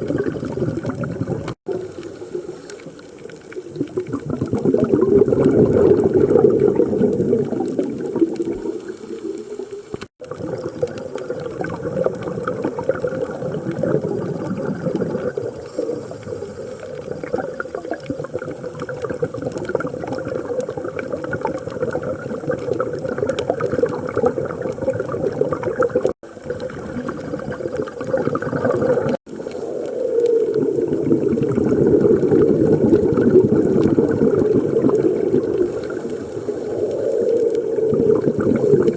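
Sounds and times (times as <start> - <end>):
bubbles gurgling underwater: 0.0 - 38.9.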